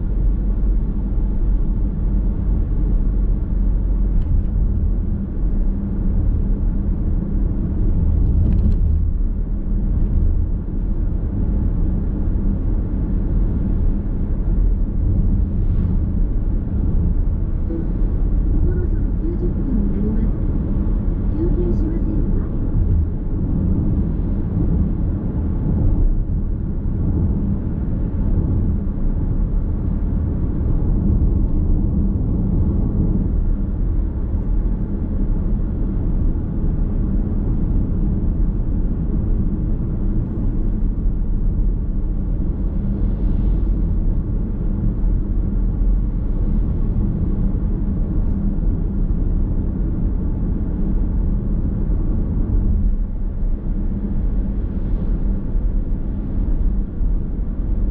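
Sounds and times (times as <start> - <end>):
car road and tyre noise: 0.0 - 57.9
low drivetrain hum: 0.0 - 57.9.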